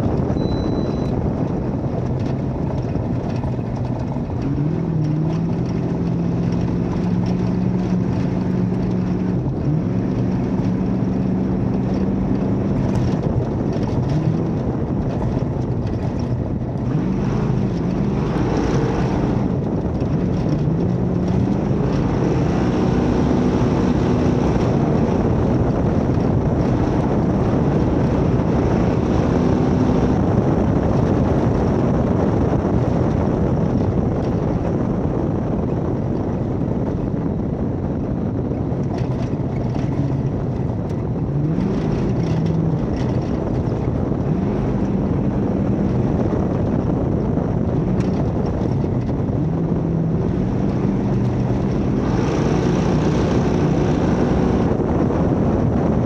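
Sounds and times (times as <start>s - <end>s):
truck engine revving: 0.0s - 35.9s, 38.7s - 56.0s
off-road noise: 0.0s - 56.0s
wind rushing: 0.0s - 56.0s.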